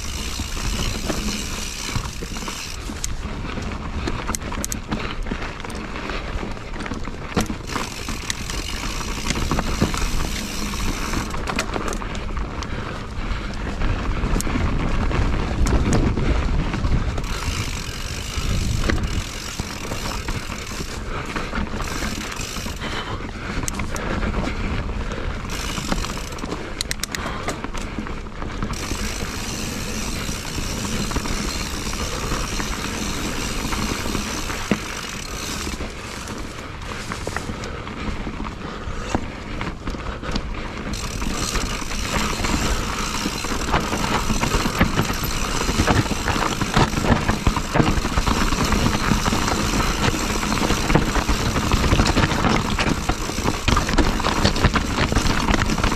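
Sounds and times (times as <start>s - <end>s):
bike clicks and rattles: 0.0s - 55.9s
bike tyre riding noise: 0.0s - 55.9s.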